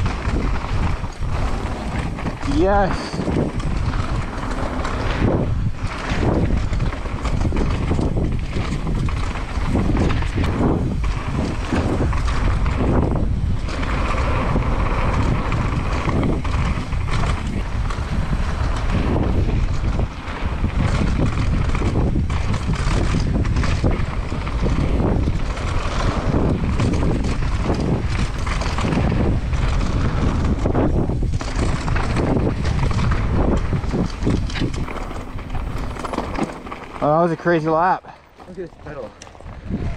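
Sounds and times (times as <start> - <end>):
bike knocking and rattling: 0.0 - 39.9
bike tyre noise on dirt: 0.0 - 39.9
wind on microphone: 0.0 - 39.9.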